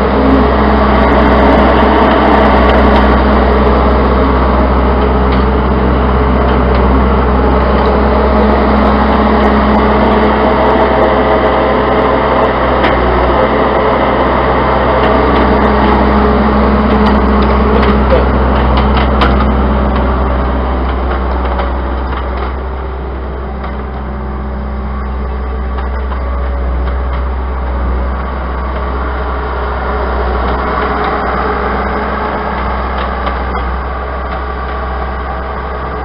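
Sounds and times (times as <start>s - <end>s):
diesel loader engine running: 0.0s - 36.0s.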